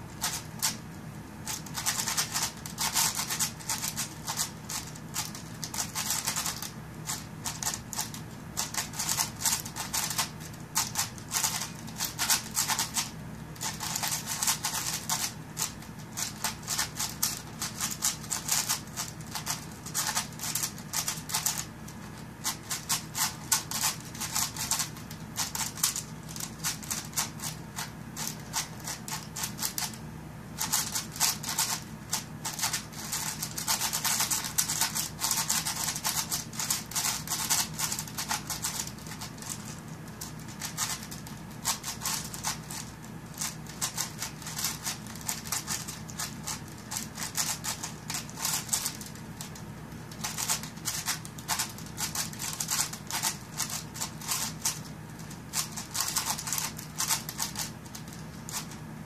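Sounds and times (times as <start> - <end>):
puzzle cube clicking and rattling: 0.2 - 0.8, 1.4 - 30.0, 30.6 - 58.8.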